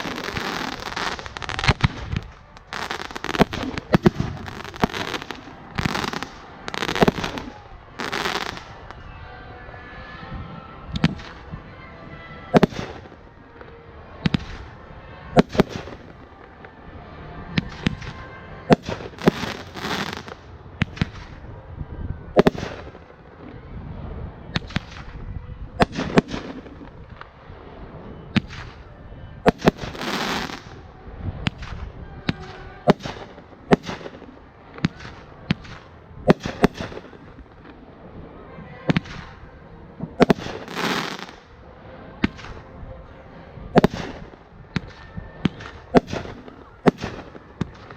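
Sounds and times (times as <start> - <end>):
fireworks bangs: 0.0 - 9.1, 10.9 - 16.7, 17.5 - 41.6, 43.7 - 47.9.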